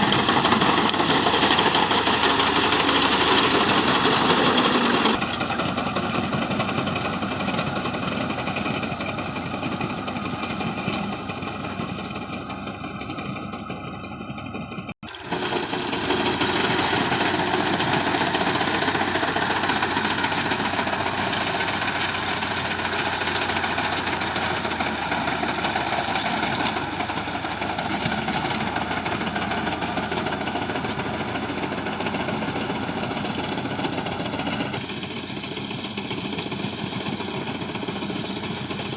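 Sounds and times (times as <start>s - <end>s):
harvester engine knocking: 0.0s - 38.9s.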